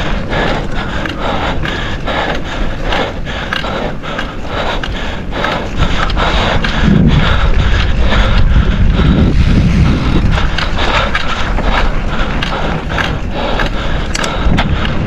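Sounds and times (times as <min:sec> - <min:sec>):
bike tyres rushing over trail: 0:00.0 - 0:15.0
bike rattling and knocking: 0:02.9 - 0:15.0.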